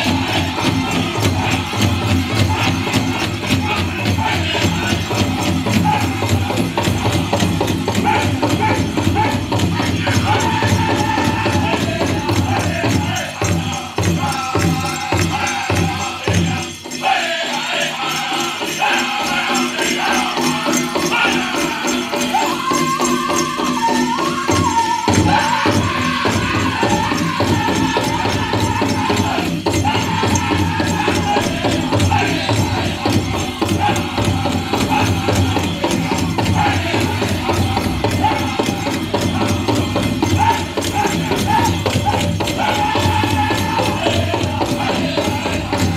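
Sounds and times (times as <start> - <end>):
big drum steady beat: 0.0 - 16.7, 24.0 - 45.9
high-pitched group singing: 0.0 - 45.9
leg bells jingling: 0.0 - 45.9.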